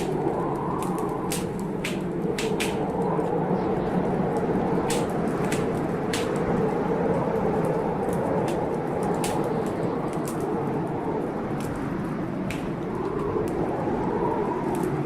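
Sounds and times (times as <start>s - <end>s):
heavy blizzard wind: 0.0s - 15.0s
wood fire crackling: 0.0s - 15.0s.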